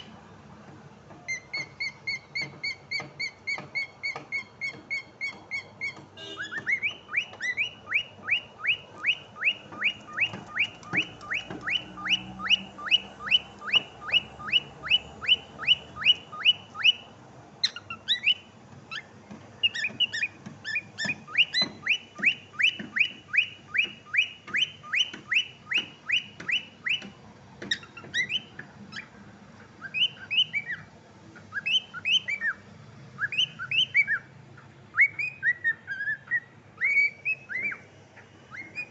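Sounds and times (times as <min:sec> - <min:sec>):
cockatiel whistling: 0:01.3 - 0:29.1, 0:29.8 - 0:30.9, 0:31.5 - 0:32.6, 0:33.2 - 0:34.3, 0:34.9 - 0:38.9.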